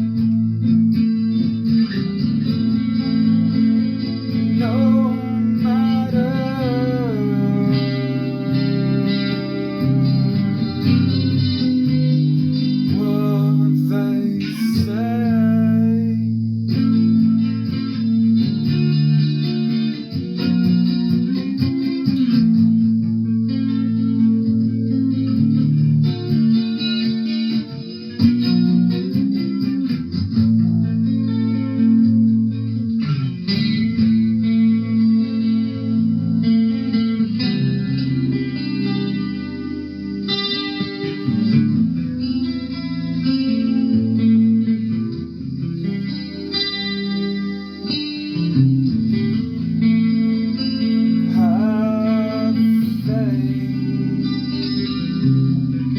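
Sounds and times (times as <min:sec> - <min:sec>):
guitar music: 0:00.0 - 0:55.9.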